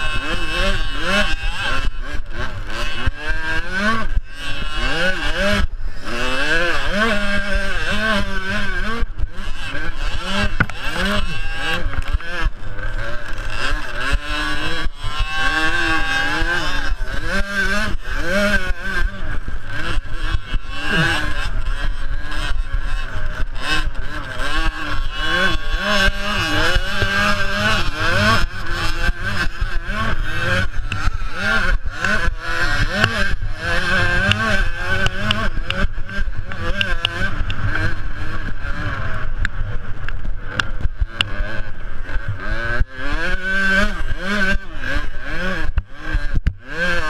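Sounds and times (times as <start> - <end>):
two-stroke motocross bikes revving: 0.0 - 47.0.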